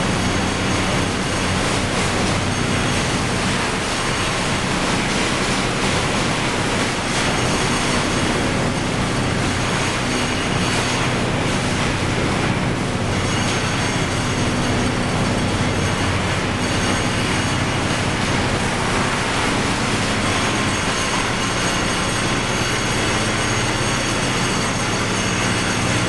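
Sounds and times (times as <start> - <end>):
tub grinder clattering: 0.0 - 26.0.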